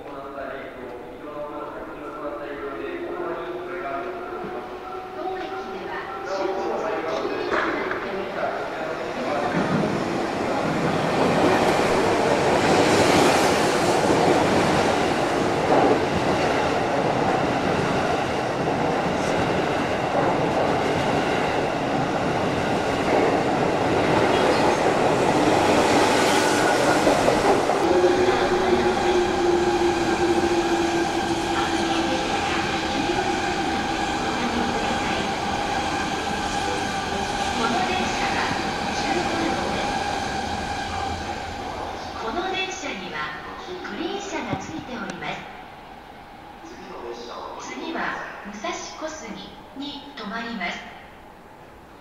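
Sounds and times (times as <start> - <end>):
electric train running past: 0.1 - 52.0
electric train whine: 0.5 - 49.8.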